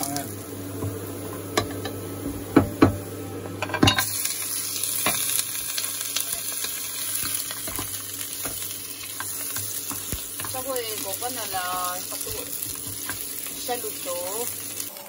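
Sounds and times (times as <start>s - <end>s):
beef frying: 0.0s - 15.0s
garlic sizzling in hot oil: 0.0s - 15.0s.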